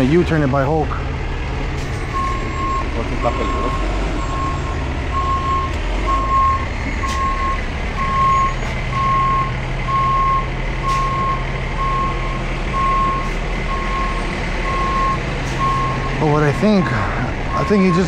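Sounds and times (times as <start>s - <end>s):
truck backup alarm beeping: 1.7s - 18.0s.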